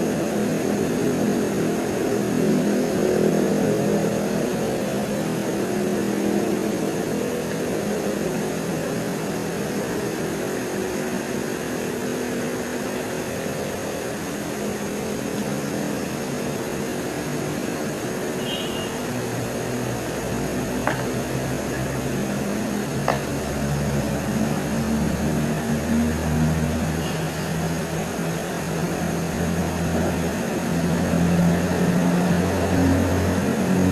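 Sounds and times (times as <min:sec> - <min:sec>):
high thin tone and hiss: 0:00.0 - 0:30.8
low engine-like drone: 0:00.0 - 0:33.9.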